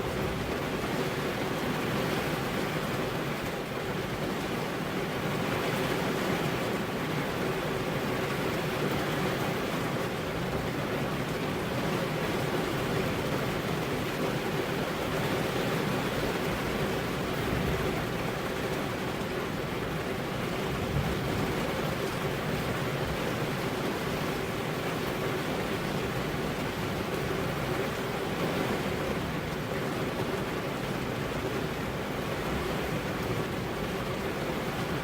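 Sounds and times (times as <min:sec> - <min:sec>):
rain drumming on a car: 0:00.0 - 0:35.0.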